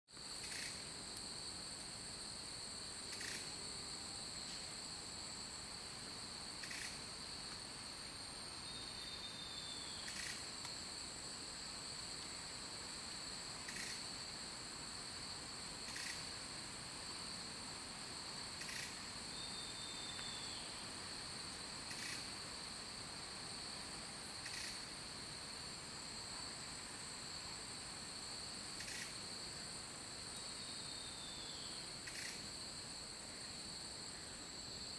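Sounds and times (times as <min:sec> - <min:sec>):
insects droning: 0:00.1 - 0:34.9.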